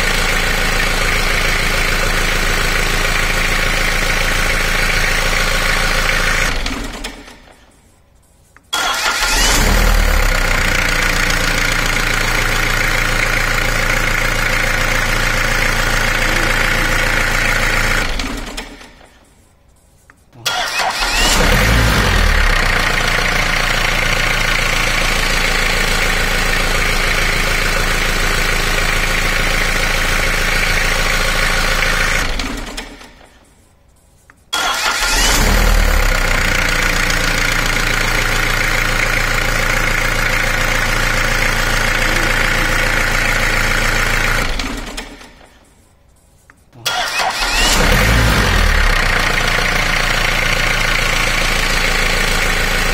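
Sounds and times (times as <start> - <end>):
engine winding down: 0.0 - 7.4, 8.8 - 19.0, 20.5 - 33.3, 34.6 - 45.5, 46.8 - 52.9
engine starting and running: 0.0 - 7.8, 8.7 - 19.3, 20.4 - 33.5, 34.5 - 45.7, 46.8 - 52.9.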